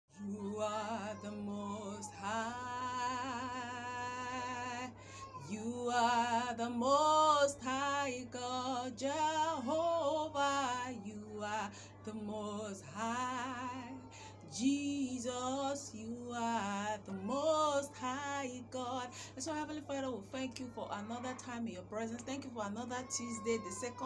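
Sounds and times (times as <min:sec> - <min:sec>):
woman singing unaccompanied: 0:00.1 - 0:24.0.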